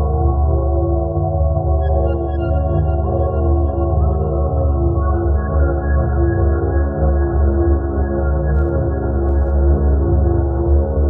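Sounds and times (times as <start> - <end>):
ambient music with low drone: 0.0 - 11.0.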